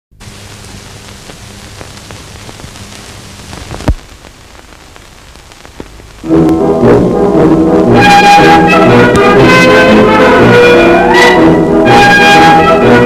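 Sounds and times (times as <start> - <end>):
crackles and clicks: 0.1 - 12.1
film soundtrack hiss: 0.1 - 13.0.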